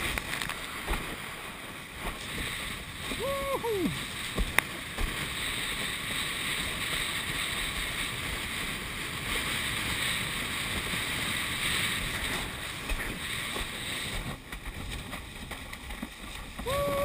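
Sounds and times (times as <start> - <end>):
water rushing under board: 0.0 - 17.0
wind on microphone: 0.0 - 17.0.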